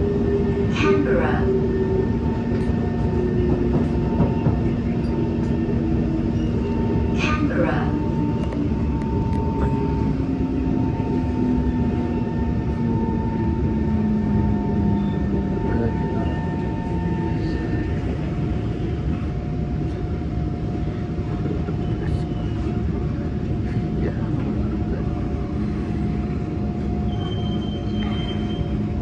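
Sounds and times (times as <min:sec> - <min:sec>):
train running rumble: 0:00.0 - 0:29.0.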